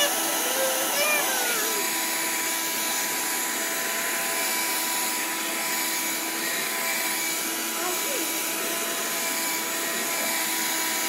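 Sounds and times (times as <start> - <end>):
vacuum cleaner whirring: 0.0 - 11.0.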